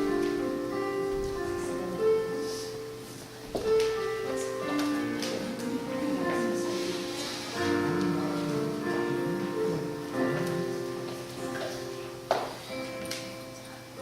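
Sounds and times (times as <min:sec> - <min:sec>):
instrumental keyboard music: 0:00.0 - 0:14.0.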